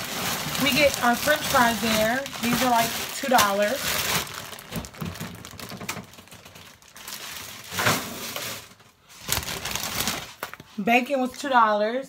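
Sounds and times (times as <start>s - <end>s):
plastic bags rustling: 0.0s - 10.8s.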